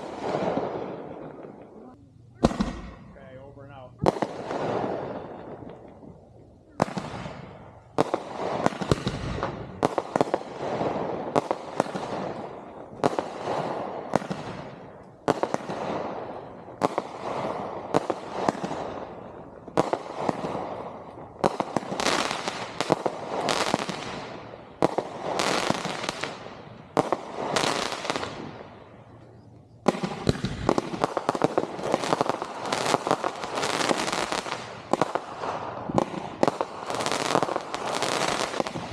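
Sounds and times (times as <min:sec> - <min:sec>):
fireworks bangs with rumble: 0:00.0 - 0:03.4, 0:04.0 - 0:28.6, 0:29.8 - 0:38.9.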